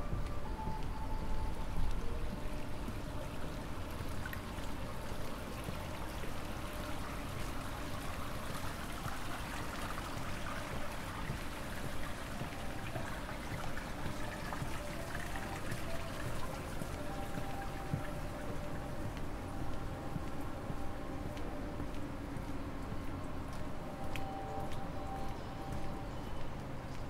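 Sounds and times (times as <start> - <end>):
rain: 0.0 - 27.0
running water: 0.0 - 27.0.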